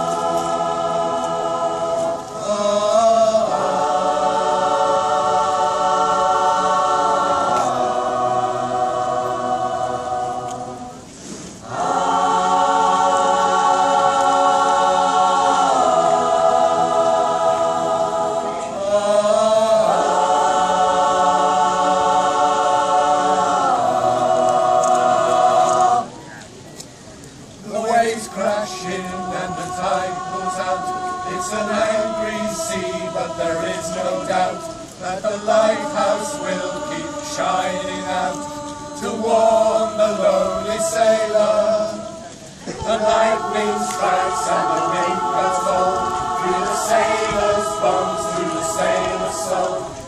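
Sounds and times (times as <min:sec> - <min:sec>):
mixed choir singing a cappella: 0:00.0 - 0:26.4, 0:27.6 - 0:50.0.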